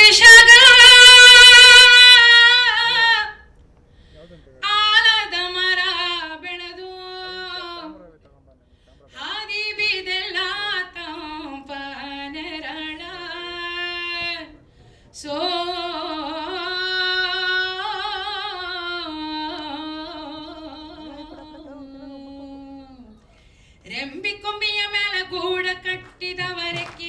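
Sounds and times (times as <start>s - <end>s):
woman singing unaccompanied: 0.0s - 3.4s, 4.6s - 8.0s, 9.2s - 14.6s, 15.2s - 23.2s, 23.8s - 27.0s.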